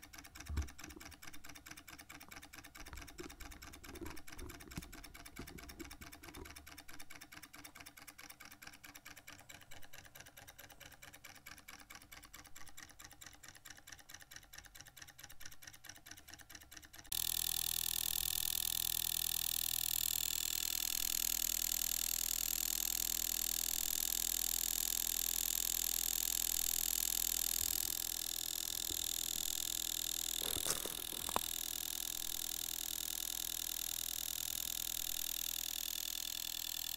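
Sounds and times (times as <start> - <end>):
model engine clicking: 0.0 - 36.9.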